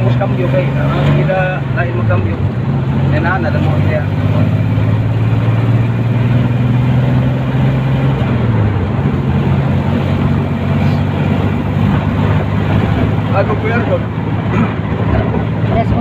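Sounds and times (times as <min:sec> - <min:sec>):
vehicle engine running: 0:00.0 - 0:16.0
wind and road noise: 0:00.0 - 0:16.0.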